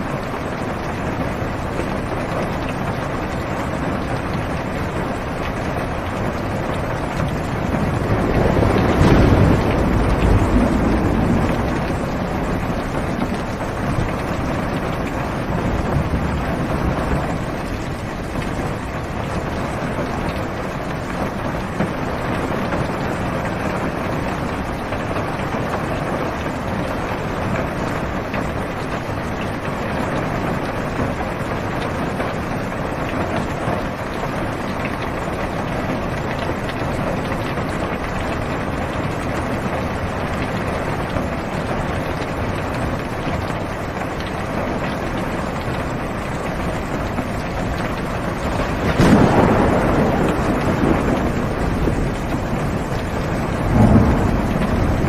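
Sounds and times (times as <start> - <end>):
heavy rain on car roof: 0.0 - 55.0
thunder rumble: 0.0 - 55.0.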